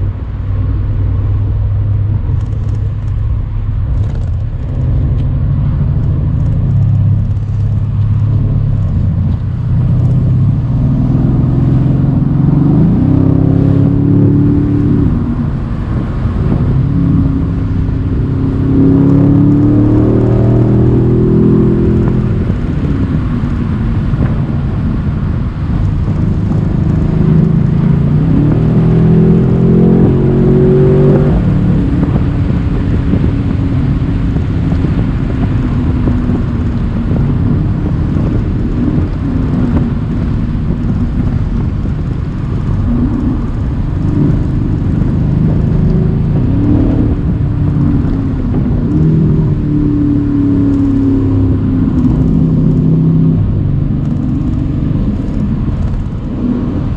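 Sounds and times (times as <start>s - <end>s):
car engine revving: 0.0s - 56.9s
road and wind noise: 0.0s - 56.9s.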